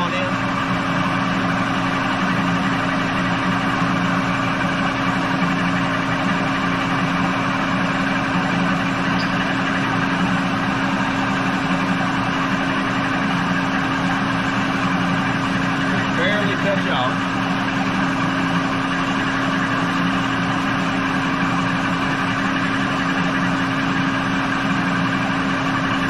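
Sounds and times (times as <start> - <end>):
metal lathe humming: 0.0 - 26.0
phase converter drone: 0.0 - 26.0.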